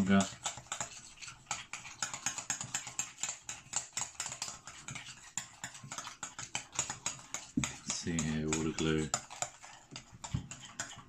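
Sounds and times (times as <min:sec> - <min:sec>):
slime beaten in glass bowl: 0:00.0 - 0:11.0.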